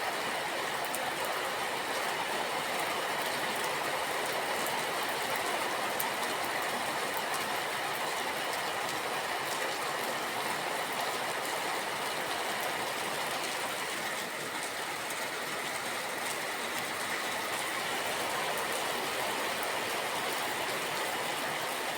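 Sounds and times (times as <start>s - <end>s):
steady rain hiss: 0.0s - 21.9s.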